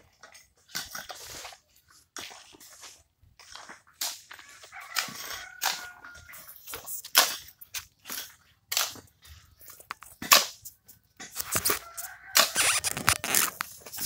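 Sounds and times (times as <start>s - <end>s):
hoe scraping mortar mix: 0.0s - 14.0s.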